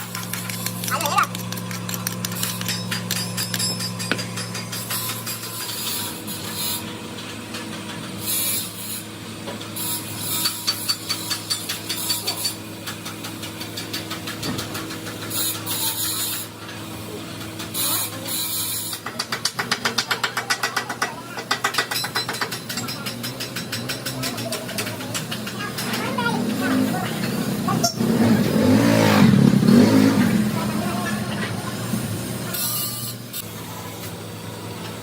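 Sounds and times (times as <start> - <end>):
workshop machinery humming: 0.0 - 35.0.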